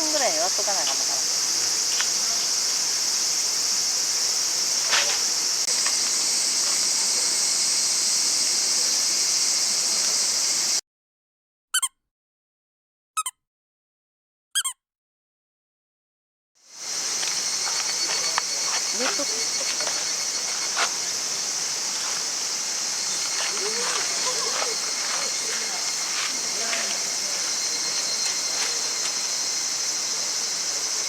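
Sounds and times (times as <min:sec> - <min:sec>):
crickets chirring: 0:00.0 - 0:10.8, 0:16.7 - 0:31.0.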